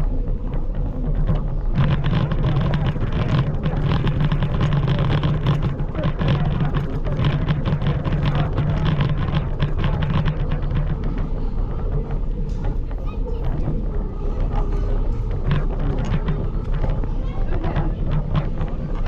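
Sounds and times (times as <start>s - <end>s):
rattling road noise: 0.0s - 19.0s
scooter motor running: 0.0s - 19.0s.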